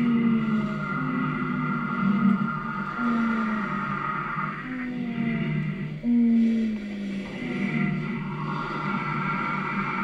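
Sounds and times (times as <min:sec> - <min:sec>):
long howls: 0:00.0 - 0:10.0.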